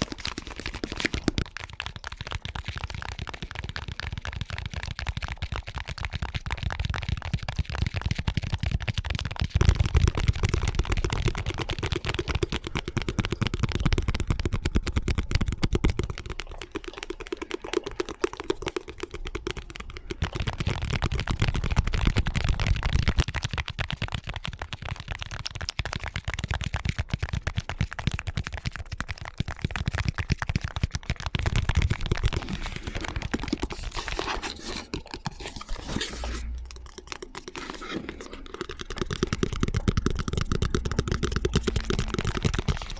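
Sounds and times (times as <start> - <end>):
fast tapping on hard objects: 0.0 - 42.9.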